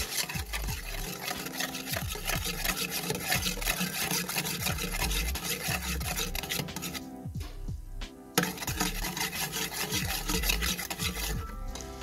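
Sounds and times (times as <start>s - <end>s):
metal spoon scraping a pot: 0.0s - 7.2s, 8.4s - 12.0s.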